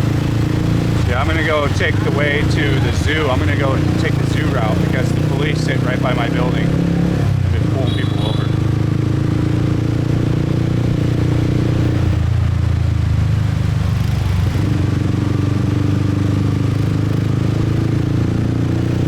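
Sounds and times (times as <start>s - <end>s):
motorbike engine droning: 0.0s - 19.0s.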